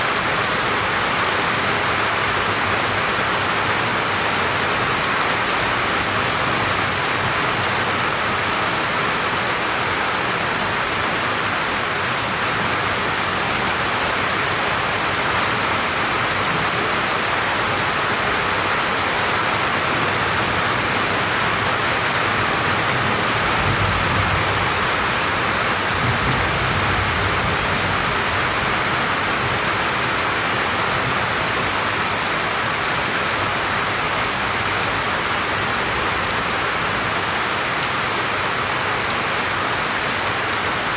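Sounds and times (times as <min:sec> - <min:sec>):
rain on roof and leaves: 0:00.0 - 0:40.9.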